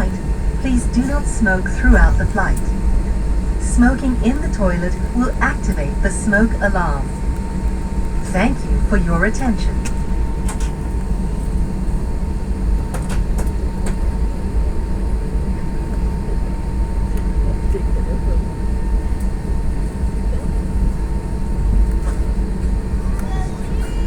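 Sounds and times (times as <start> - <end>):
aircraft cabin rumble: 0.0 - 24.0
thin steady whine: 0.0 - 24.0.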